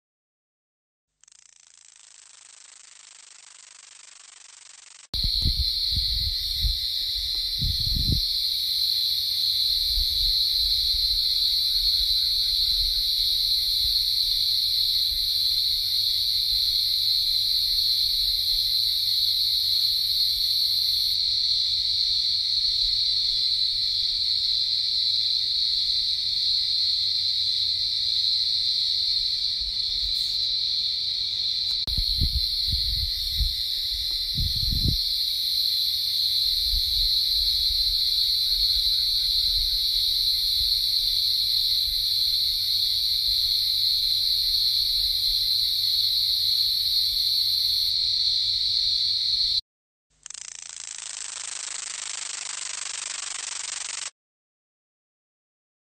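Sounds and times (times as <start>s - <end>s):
insects calling: 1.3s - 49.6s, 50.2s - 54.1s.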